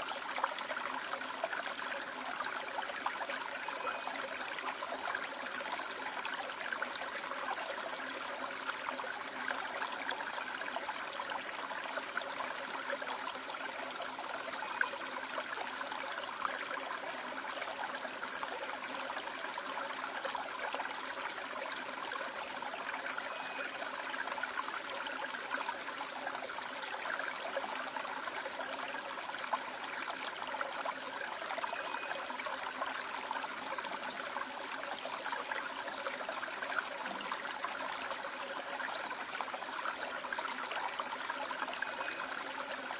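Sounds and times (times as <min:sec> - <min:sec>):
stream flowing over rocks: 0:00.0 - 0:42.9.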